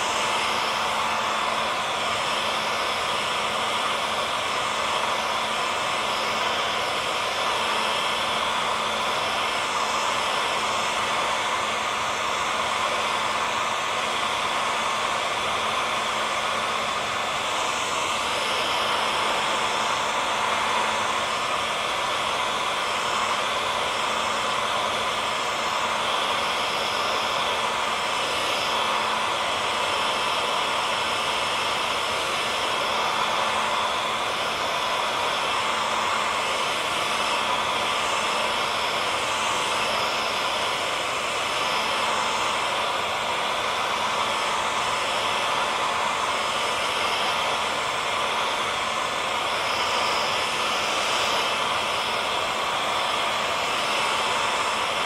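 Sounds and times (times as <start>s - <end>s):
hair dryer blowing air: 0.0s - 55.0s.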